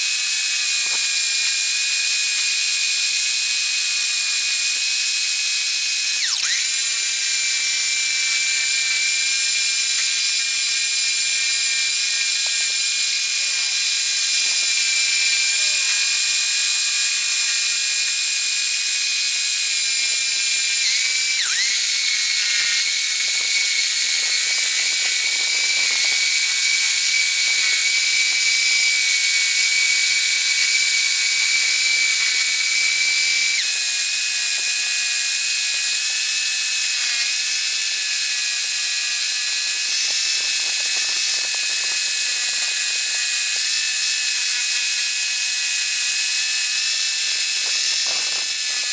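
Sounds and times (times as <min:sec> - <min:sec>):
scroll saw whining: 0:00.0 - 0:48.9.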